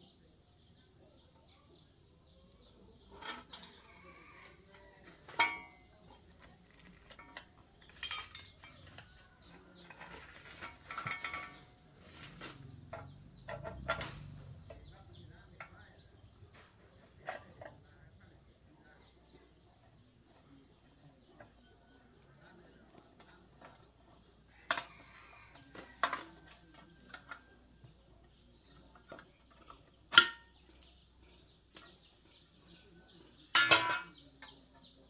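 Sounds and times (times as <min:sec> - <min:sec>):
metal tools clanking: 0:03.0 - 0:21.6, 0:22.7 - 0:35.0.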